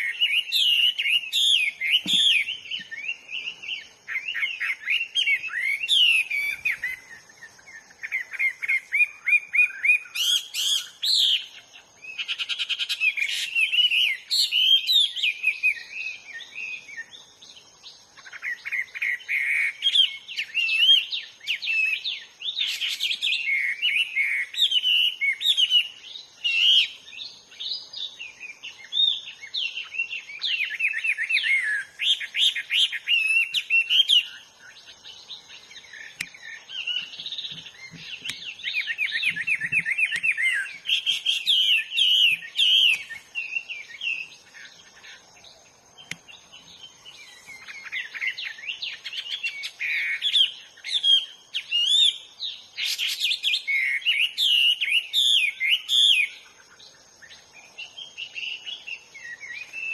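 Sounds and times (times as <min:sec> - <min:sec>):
bird singing whistled trills: 0:00.0 - 0:59.9.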